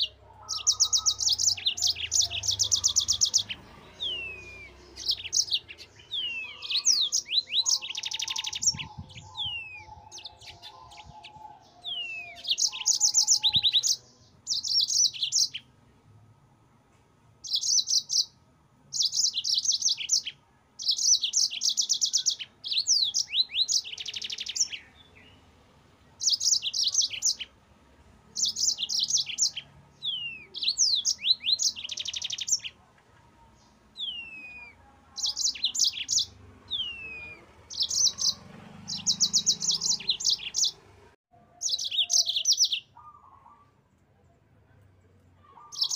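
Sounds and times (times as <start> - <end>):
canary singing trills: 0.0 - 15.7, 17.4 - 25.5, 26.1 - 27.6, 28.3 - 43.8, 45.4 - 45.9.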